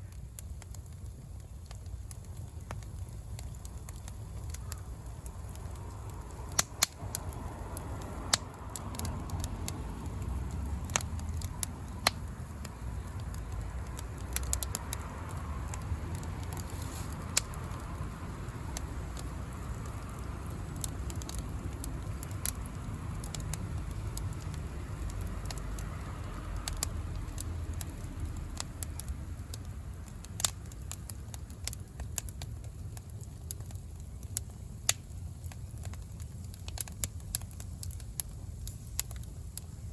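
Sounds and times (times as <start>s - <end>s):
bonfire crackling: 0.0s - 39.9s
low steady rumble: 0.0s - 39.9s.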